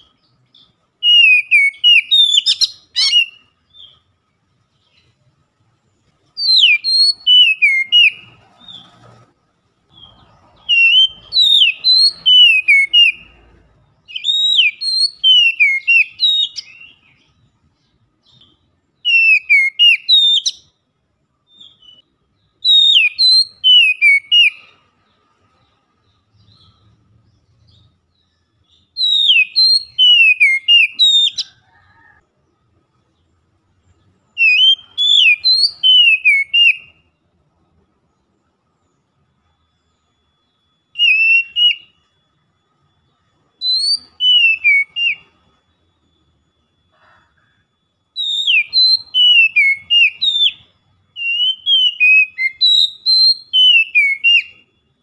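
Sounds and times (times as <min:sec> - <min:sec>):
songbird singing whistled phrases: 0:00.0 - 0:04.1, 0:06.2 - 0:09.0, 0:09.9 - 0:20.8, 0:21.4 - 0:32.1, 0:34.2 - 0:37.2, 0:38.4 - 0:55.0.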